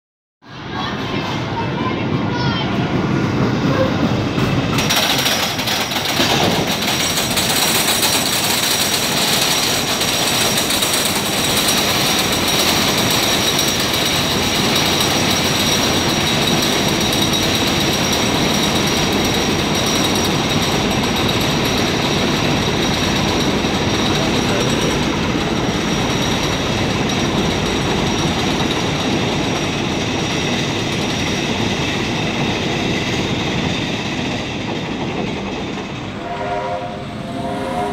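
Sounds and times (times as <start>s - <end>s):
roller coaster lift clatter: 0.5s - 36.4s.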